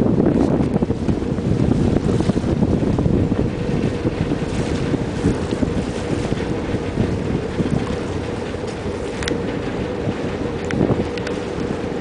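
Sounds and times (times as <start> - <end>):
boat engine rumbling: 0.0 - 12.0
wind buffeting microphone: 0.0 - 12.0.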